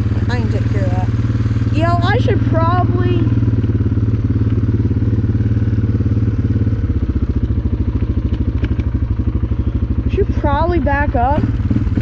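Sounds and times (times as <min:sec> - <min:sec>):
engine chugging at low speed: 0:00.0 - 0:12.0.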